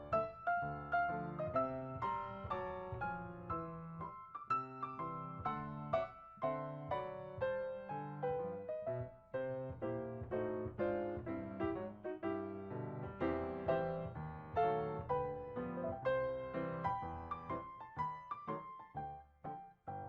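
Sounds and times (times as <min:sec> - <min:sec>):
piano playing: 0:00.0 - 0:20.0.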